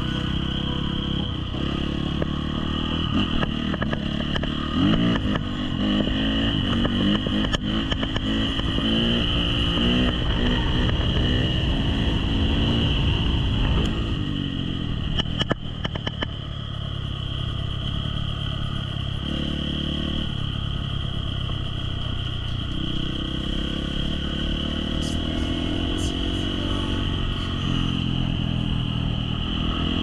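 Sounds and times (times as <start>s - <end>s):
motorbike engine under throttle: 0.0s - 30.0s.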